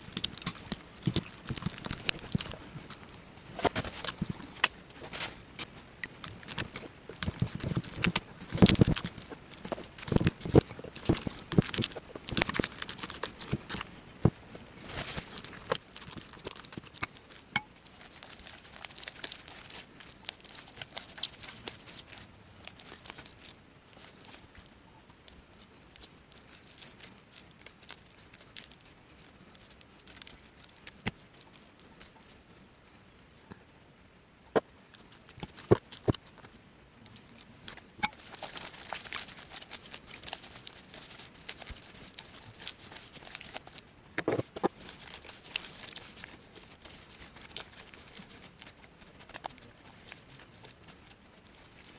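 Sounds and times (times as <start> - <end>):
crinkling and tearing: 0.0 - 33.0, 34.9 - 51.9.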